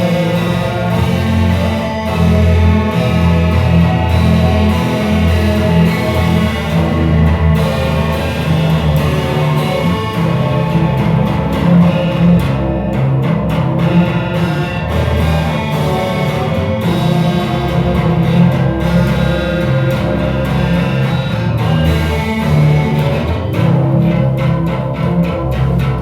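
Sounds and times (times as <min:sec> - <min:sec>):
loud band music with guitars: 0:00.0 - 0:26.0
strong bass line: 0:00.0 - 0:26.0.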